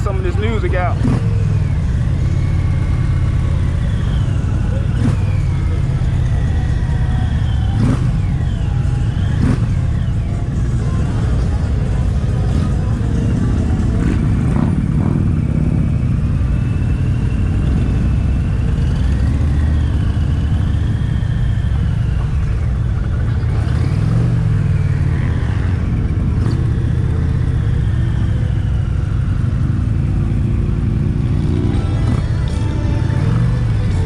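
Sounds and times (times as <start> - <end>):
motorcycle engine low rumble: 0.0 - 34.0
other motorcycle engines: 0.0 - 34.0.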